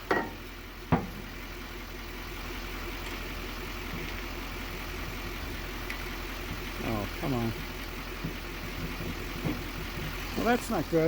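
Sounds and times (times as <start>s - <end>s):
truck engine running steadily: 0.0s - 11.0s.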